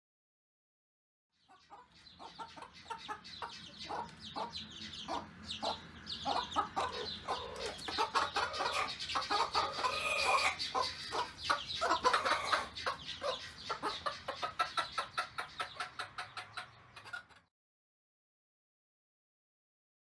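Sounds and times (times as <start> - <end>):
chicks cheeping: 1.4 - 17.5
hen clucking: 1.4 - 17.5.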